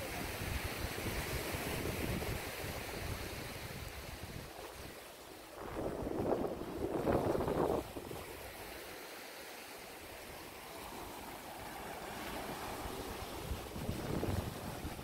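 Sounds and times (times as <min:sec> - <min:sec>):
small waves washing onto sand: 0:00.0 - 0:15.0
wind rumbling on microphone: 0:00.1 - 0:08.7, 0:10.8 - 0:15.0.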